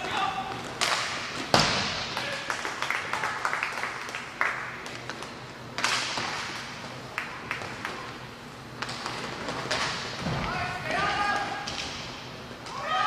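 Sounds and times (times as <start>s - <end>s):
sticks and puck clacking: 0.0s - 2.8s, 3.7s - 8.2s, 8.8s - 13.0s.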